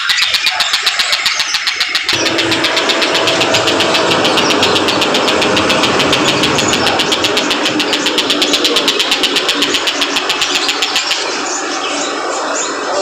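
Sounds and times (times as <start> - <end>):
kingfisher calling rapid high notes: 1.0 - 11.9
steady engine-like drone: 2.0 - 13.0.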